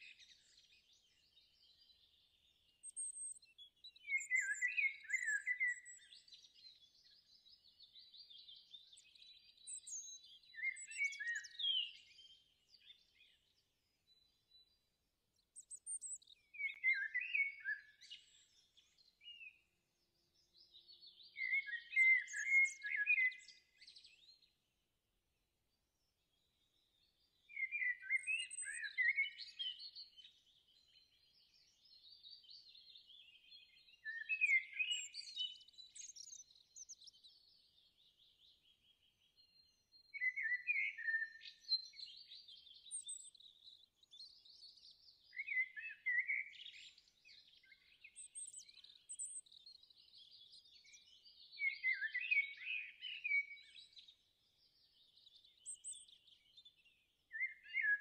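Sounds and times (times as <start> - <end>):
bird chirping and twittering: 0.0 - 24.6, 26.0 - 58.0.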